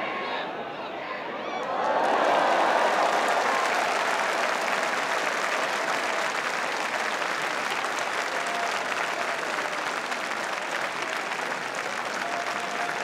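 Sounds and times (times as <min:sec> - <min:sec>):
crowd applauding: 0:01.6 - 0:13.0.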